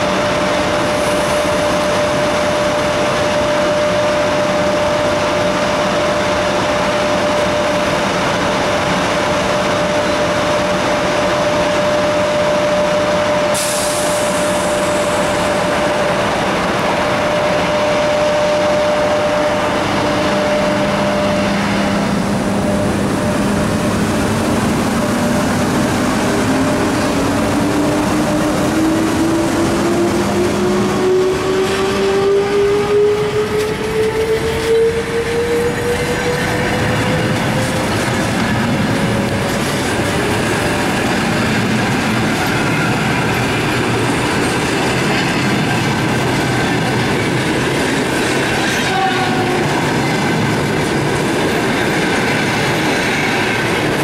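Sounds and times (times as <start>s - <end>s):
electric locomotive whine: 0.0s - 54.0s
wheels rumbling on rail: 0.0s - 54.0s.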